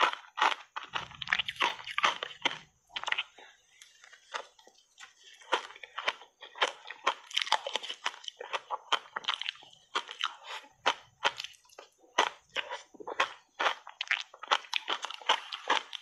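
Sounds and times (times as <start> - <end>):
crunching shaved ice: 0.0 - 16.0.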